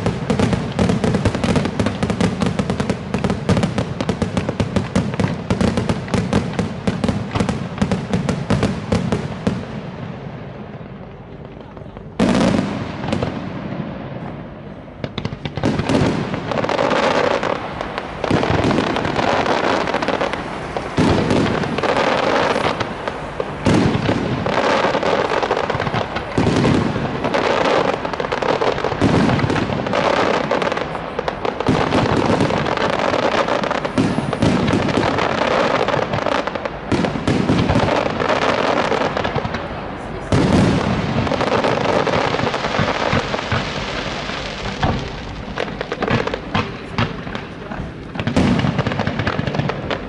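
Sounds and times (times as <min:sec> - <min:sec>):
firework shell bursts and crackling: 0:00.0 - 0:09.7, 0:15.0 - 0:50.0
heavy firework bangs: 0:00.0 - 0:50.0.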